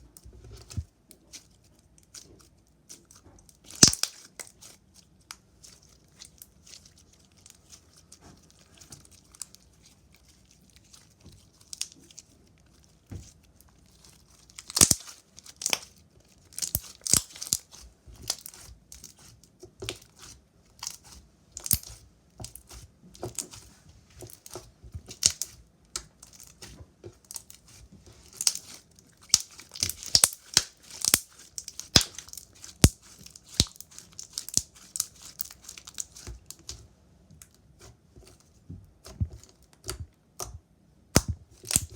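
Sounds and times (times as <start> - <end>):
slime squishing and crackling: 0.0 - 36.9, 37.7 - 41.9.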